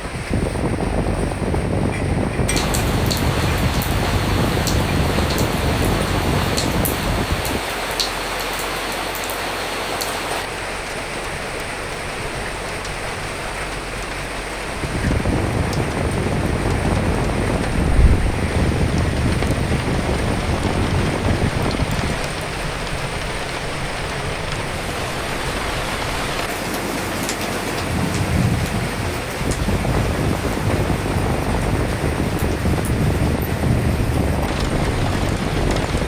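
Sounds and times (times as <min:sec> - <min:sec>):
gust of wind: 0:00.0 - 0:10.6, 0:14.8 - 0:36.0
steady rain falling: 0:00.0 - 0:36.0.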